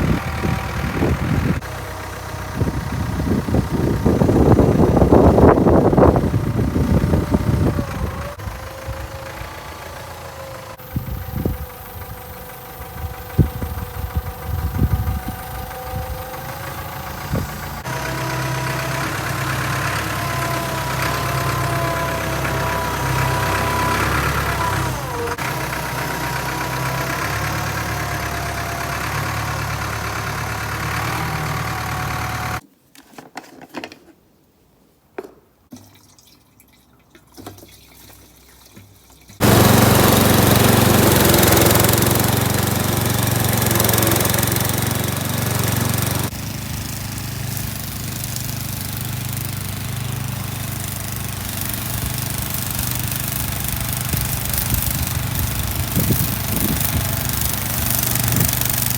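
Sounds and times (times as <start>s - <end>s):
ride-on mower engine running: 0.0s - 32.6s, 39.4s - 58.9s.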